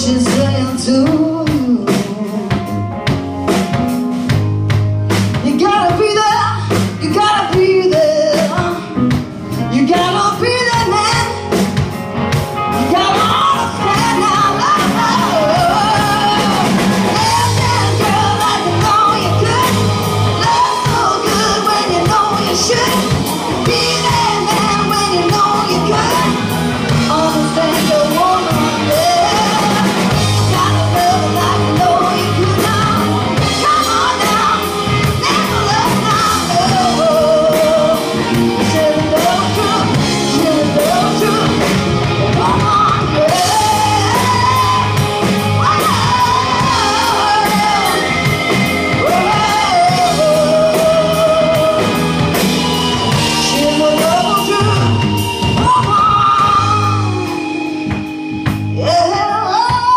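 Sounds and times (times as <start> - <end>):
woman singing: 0.0 - 3.2, 5.3 - 11.9, 12.7 - 59.9
live band playing: 0.0 - 59.9.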